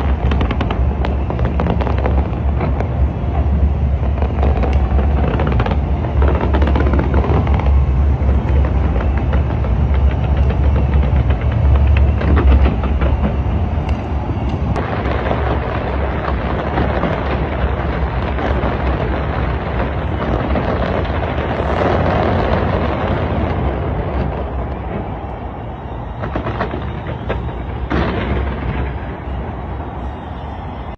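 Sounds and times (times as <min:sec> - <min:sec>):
fireworks booming and crackling: 0:00.0 - 0:30.9.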